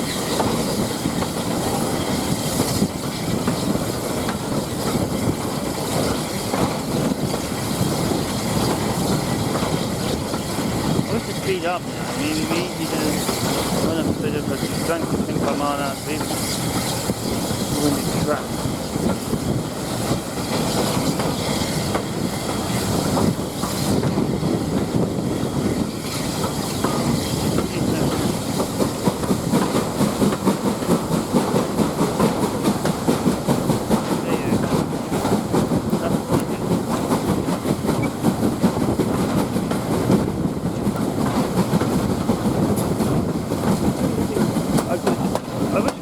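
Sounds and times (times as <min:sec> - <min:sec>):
railway carriage rumble: 0:00.0 - 0:46.0
wheels clacking over rail joints: 0:00.0 - 0:46.0.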